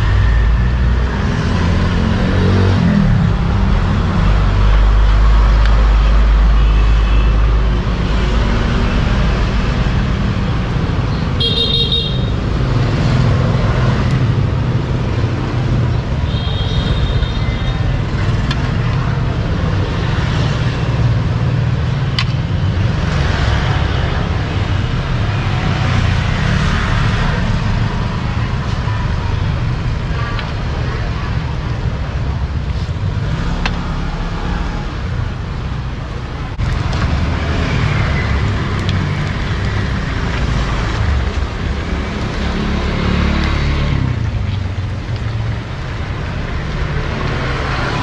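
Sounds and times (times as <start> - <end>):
road traffic rumbling: 0.0 - 48.0.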